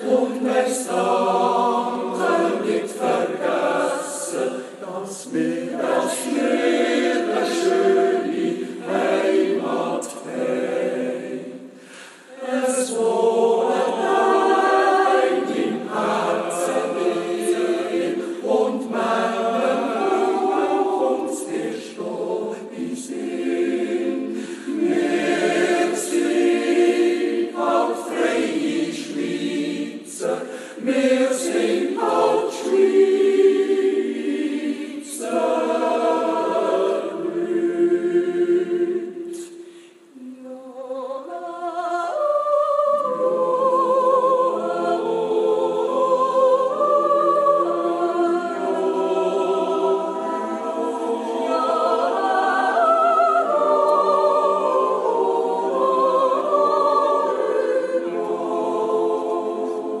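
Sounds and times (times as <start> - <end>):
choir yodelling a cappella: 0.0 - 60.0.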